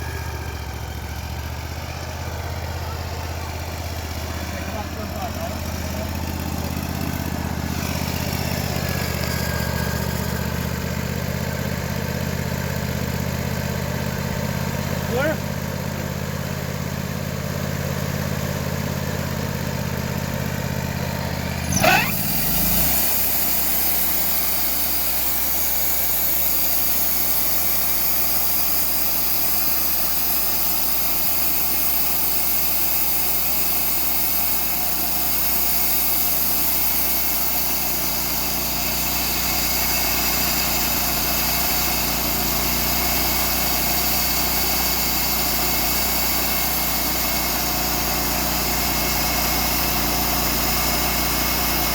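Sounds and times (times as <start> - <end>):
small gasoline engine revving: 0.0 - 51.9.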